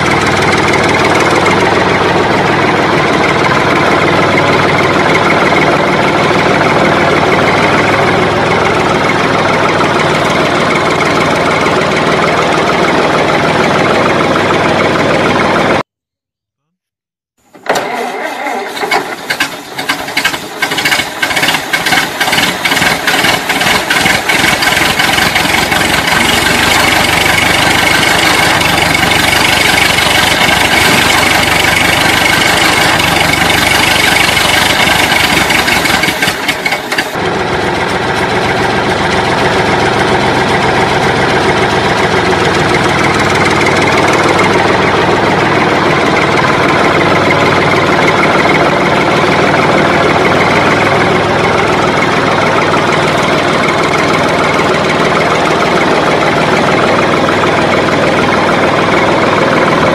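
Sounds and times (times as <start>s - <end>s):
tractor engine starting and running: 0.0s - 59.9s.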